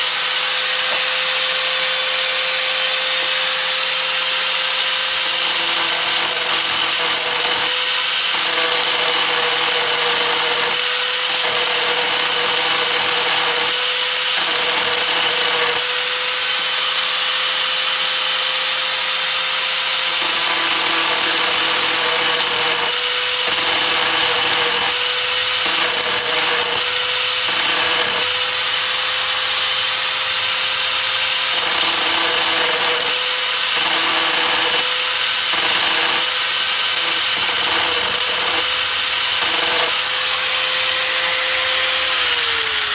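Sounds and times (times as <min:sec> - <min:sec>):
grinder bit scraping: 0:00.0 - 0:42.9
rotary grinder motor whine: 0:00.0 - 0:42.9.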